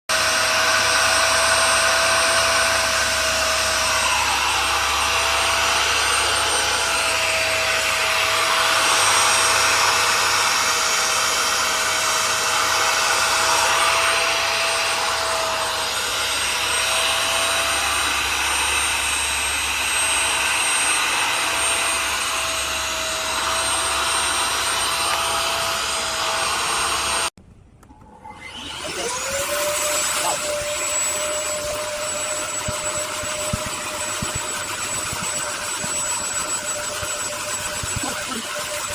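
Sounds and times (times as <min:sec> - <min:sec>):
vacuum motor whining: 0:00.1 - 0:38.9.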